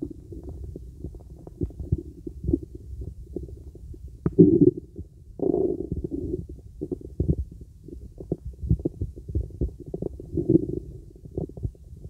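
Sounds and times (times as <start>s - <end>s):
stomach gurgles and pops: 0.0s - 12.0s.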